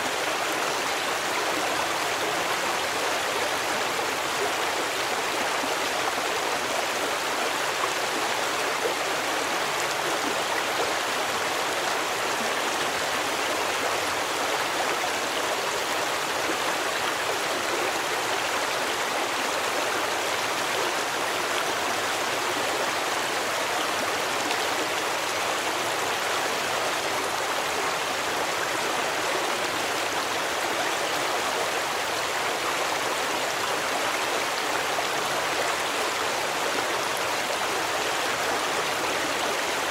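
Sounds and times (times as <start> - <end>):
stream water running and splashing: 0.0 - 39.9.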